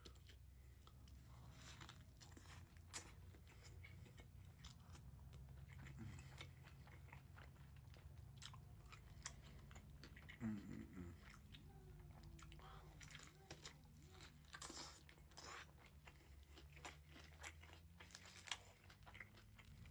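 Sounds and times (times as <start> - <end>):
person chewing crunchy food: 0.0 - 19.9.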